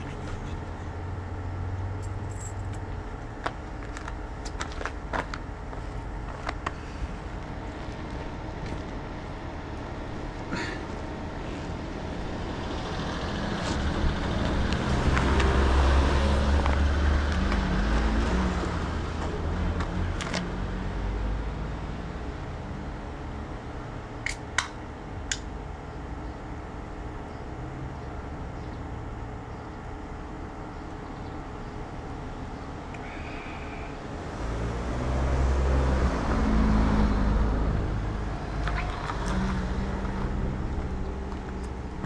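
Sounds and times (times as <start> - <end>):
vehicle engine rumble: 0.0 - 42.0.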